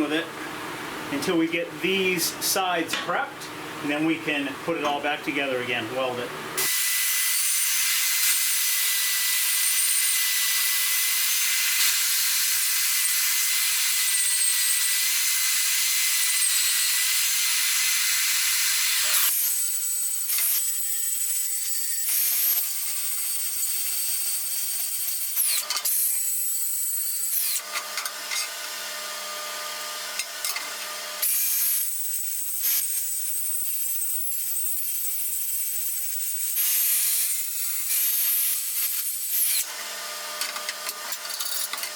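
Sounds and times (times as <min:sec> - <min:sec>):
angle grinder grinding steel: 0:06.6 - 0:41.9.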